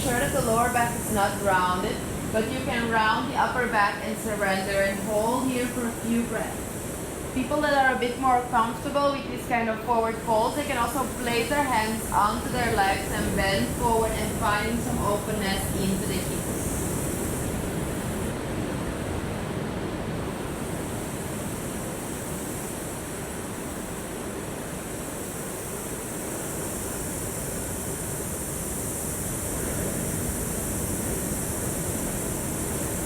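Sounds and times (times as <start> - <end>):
ocean waves rushing: 0.0 - 33.0.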